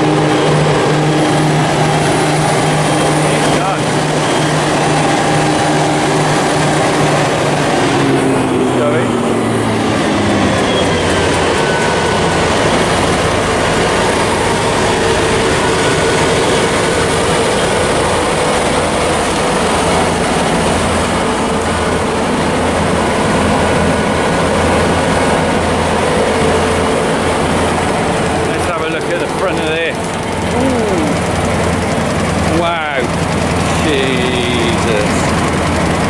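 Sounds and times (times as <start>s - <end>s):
diesel engine drone: 0.0s - 36.0s
machinery whine: 0.0s - 36.0s.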